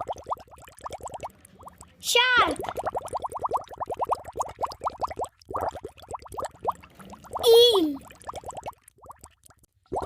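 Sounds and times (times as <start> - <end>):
rising bubbling bloops: 0.0 - 10.0.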